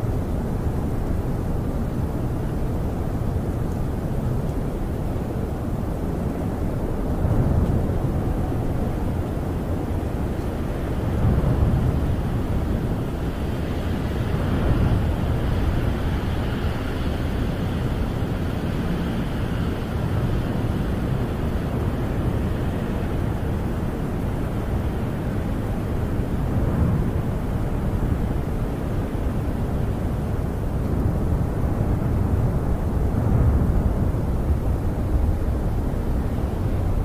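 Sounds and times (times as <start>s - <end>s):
snowstorm wind rumbling: 0.0s - 37.0s.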